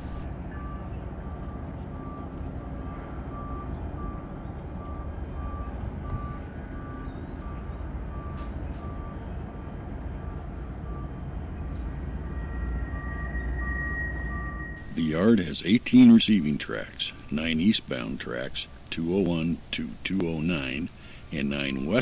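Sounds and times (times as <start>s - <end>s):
low machinery rumble: 0.0s - 22.0s.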